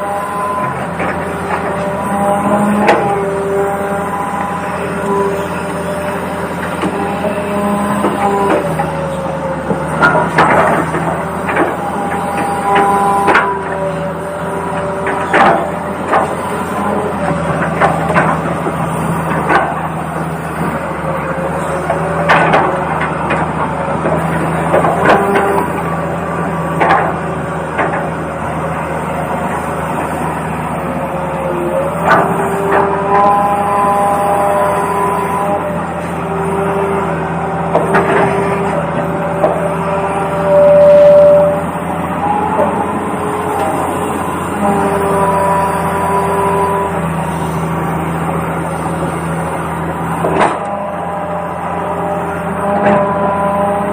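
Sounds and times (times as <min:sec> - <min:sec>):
toy excavator motors whining: 0:00.0 - 0:53.9.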